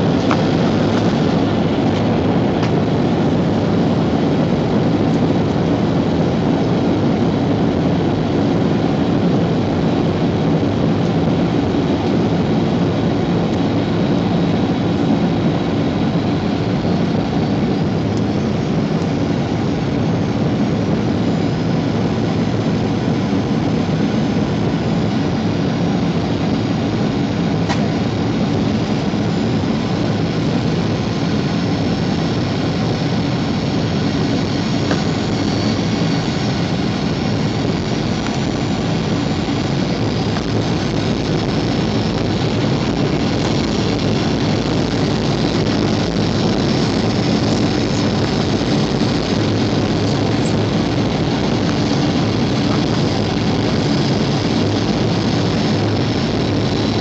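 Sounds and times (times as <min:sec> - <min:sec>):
airliner engine drone: 0:00.0 - 0:57.0
rushing airflow: 0:00.0 - 0:57.0.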